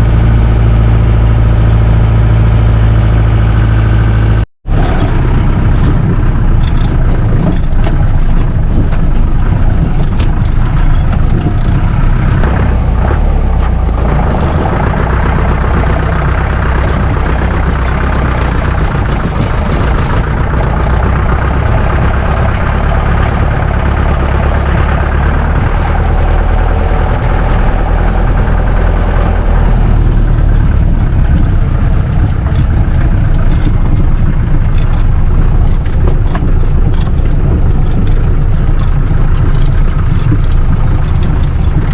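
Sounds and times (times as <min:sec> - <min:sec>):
jeep engine low rumble: 0:00.0 - 0:41.9.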